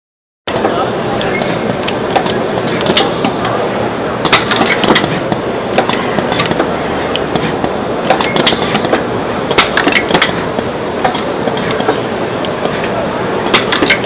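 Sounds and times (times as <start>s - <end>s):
pneumatic machine clacks and clicks: 0.5s - 3.6s, 4.2s - 14.0s.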